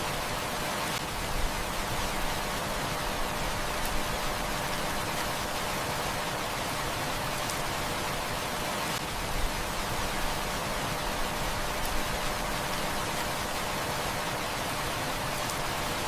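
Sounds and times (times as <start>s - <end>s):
heavy rain falling: 0.0s - 16.0s
wood fire crackling: 1.0s - 16.0s.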